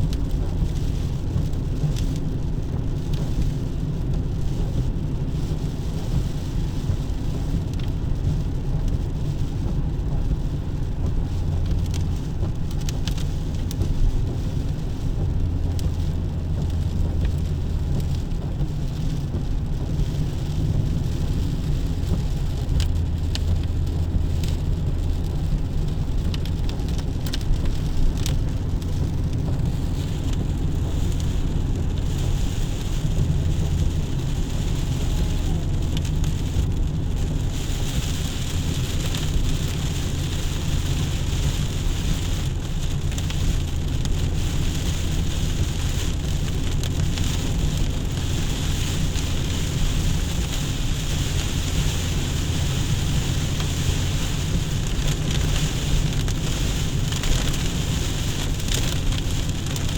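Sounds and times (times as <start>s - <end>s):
constant low rumble: 0.0s - 59.9s
rain falling: 0.0s - 59.9s.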